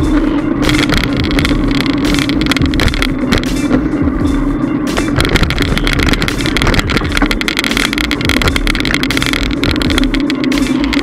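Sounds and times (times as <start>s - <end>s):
wind buffeting microphone: 0.0s - 10.5s
bike rattling: 0.0s - 11.0s
tyre hum on road: 0.0s - 11.0s.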